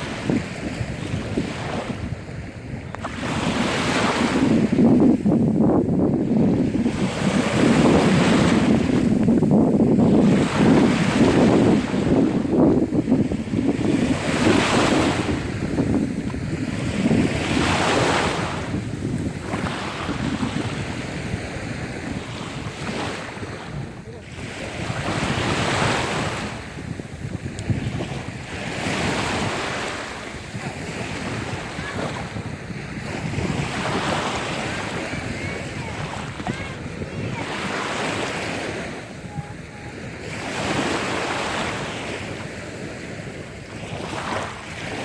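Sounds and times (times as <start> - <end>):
sea waves washing: 0.0 - 45.0
wind buffeting microphone: 0.0 - 45.0.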